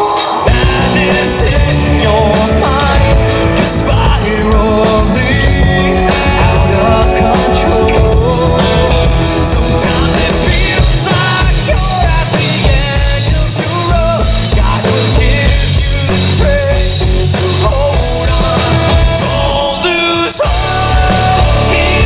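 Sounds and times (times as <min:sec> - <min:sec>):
rock band playing live: 0:00.0 - 0:22.0.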